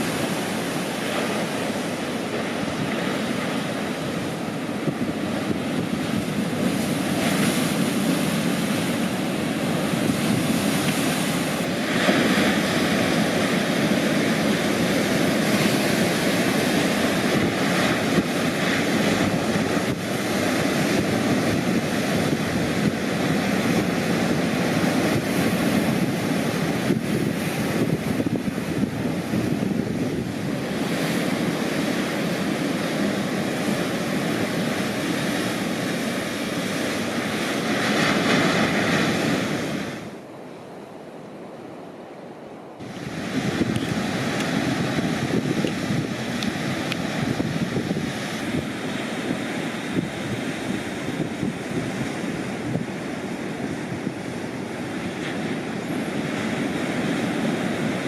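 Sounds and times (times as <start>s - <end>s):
ocean surf breaking: 0.0s - 58.0s.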